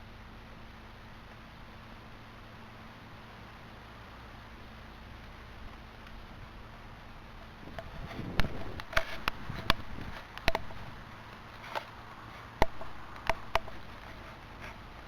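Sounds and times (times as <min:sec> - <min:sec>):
bonfire crackling and popping: 0:00.2 - 0:15.0.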